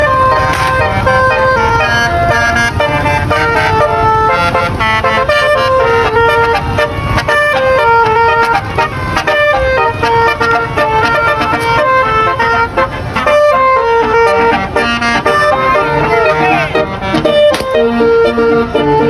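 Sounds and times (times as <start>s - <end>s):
bus horn playing a tune: 0.0s - 19.0s
low engine rumble: 0.0s - 19.0s.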